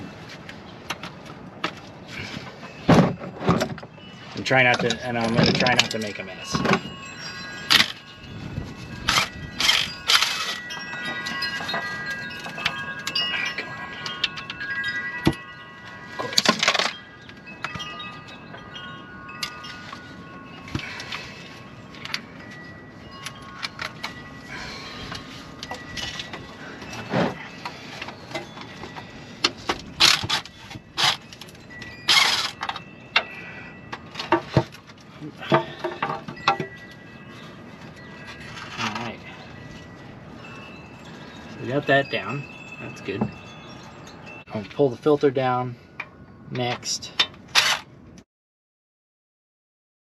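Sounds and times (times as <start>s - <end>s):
wind chimes ringing: 0.0s - 48.2s.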